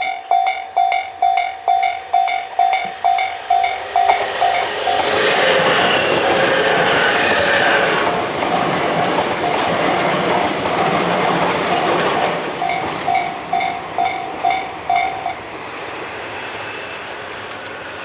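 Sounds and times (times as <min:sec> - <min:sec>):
level-crossing alarm ringing: 0:00.0 - 0:16.5
train wheels clicking over rail joints: 0:00.0 - 0:18.0.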